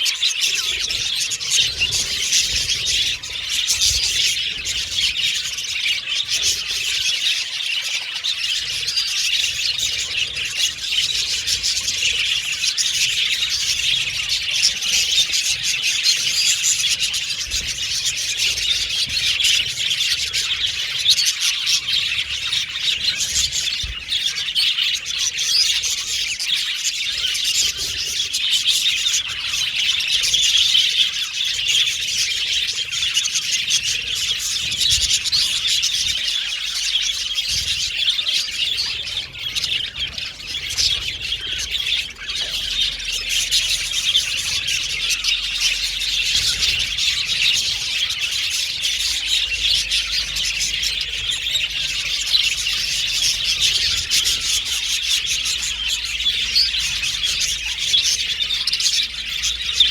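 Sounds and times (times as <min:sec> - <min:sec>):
budgies chattering and chirping: 0:00.0 - 0:59.9.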